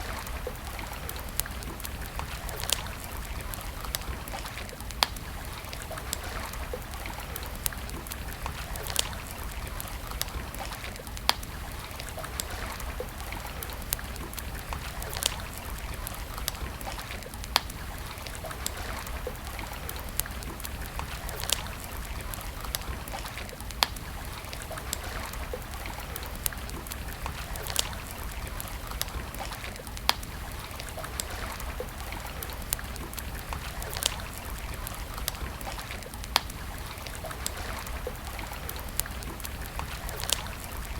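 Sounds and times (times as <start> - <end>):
campfire crackling and popping: 0.0 - 40.9
stream trickling: 0.0 - 40.9.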